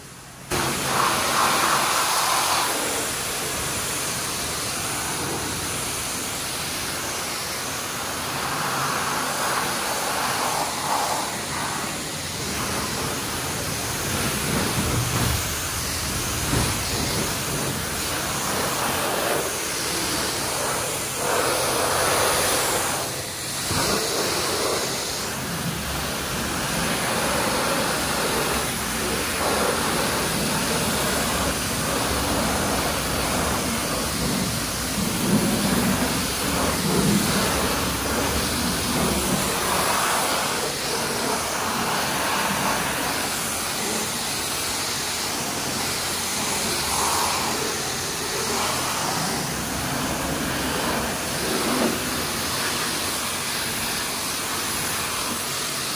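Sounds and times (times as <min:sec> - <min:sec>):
pressure washer spraying car: 0:00.0 - 0:55.9.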